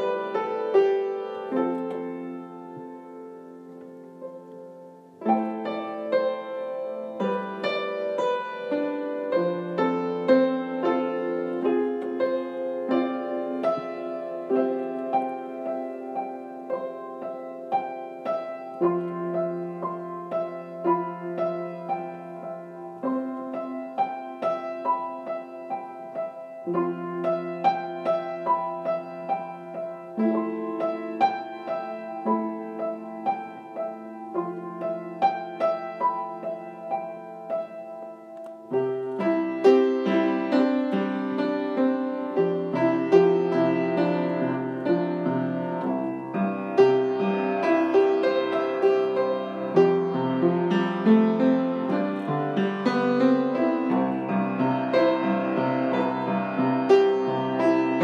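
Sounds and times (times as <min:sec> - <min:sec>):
gentle piano music: 0:00.0 - 0:58.0.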